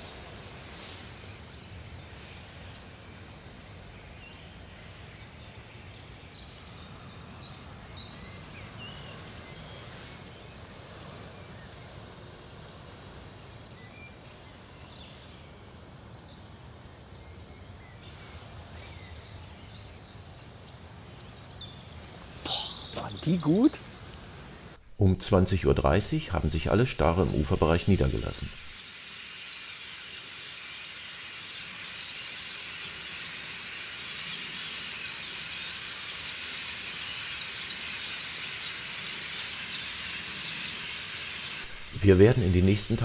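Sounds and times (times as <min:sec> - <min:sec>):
low outdoor background noise: 0:00.0 - 0:43.0.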